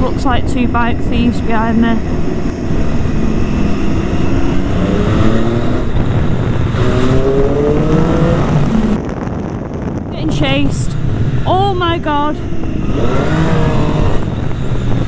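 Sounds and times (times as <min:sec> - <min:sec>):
motorcycle engine accelerating: 0:00.0 - 0:15.0
wind rush on microphone: 0:00.0 - 0:15.0.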